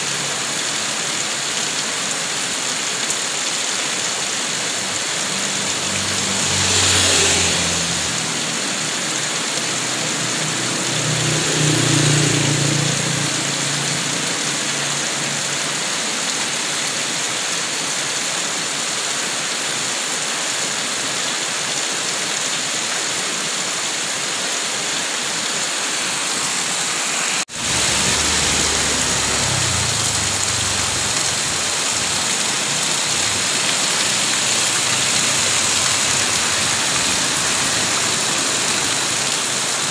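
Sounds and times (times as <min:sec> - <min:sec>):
heavy rain on roofs: 0:00.0 - 0:39.9
water pouring off roof: 0:00.0 - 0:39.9.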